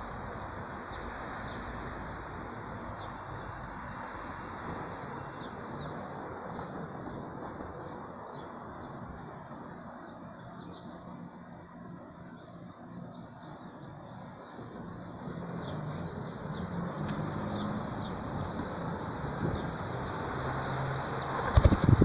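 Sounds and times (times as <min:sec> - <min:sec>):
outdoor background noise: 0:00.0 - 0:22.0
small birds chirping: 0:00.0 - 0:22.0.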